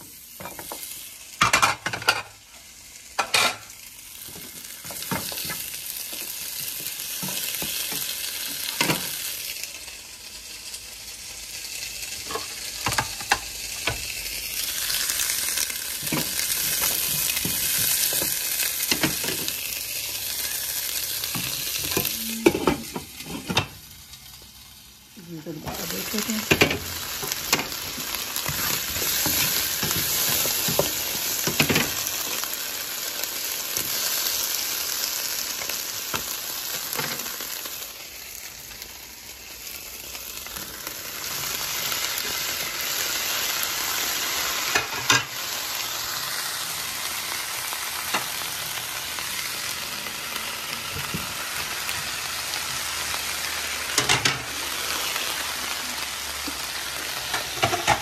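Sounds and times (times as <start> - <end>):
vegetables sizzling in a frying pan: 0.0 - 58.0.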